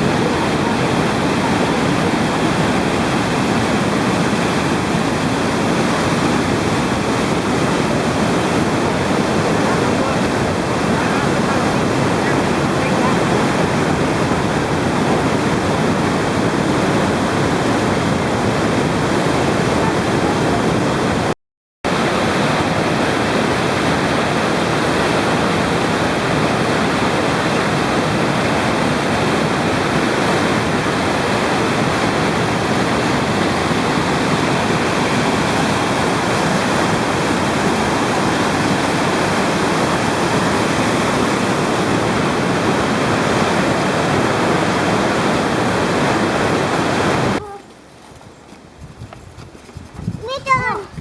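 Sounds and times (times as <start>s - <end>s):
waterfall rushing: 0.0s - 21.3s, 21.9s - 47.4s.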